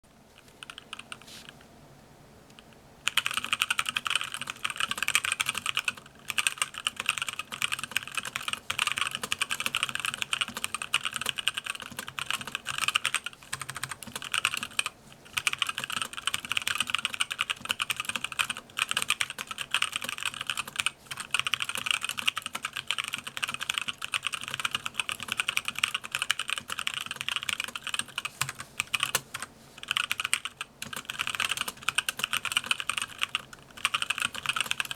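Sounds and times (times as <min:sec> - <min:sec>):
mechanical keyboard typing: 0:00.6 - 0:01.2, 0:03.1 - 0:34.9.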